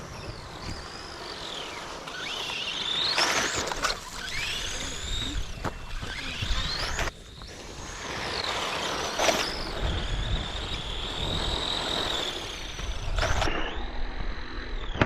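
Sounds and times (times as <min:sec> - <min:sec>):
rc car electric motors whining: 0:00.0 - 0:15.0.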